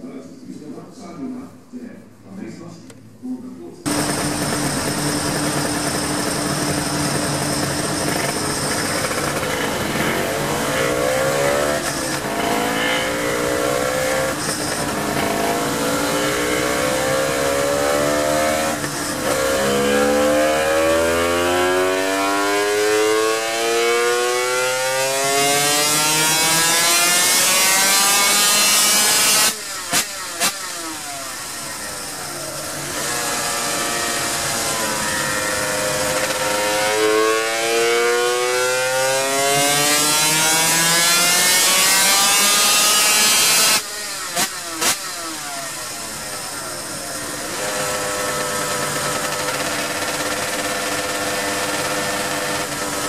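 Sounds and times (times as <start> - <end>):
two-stroke motorcycle engine revving: 3.9 - 53.0.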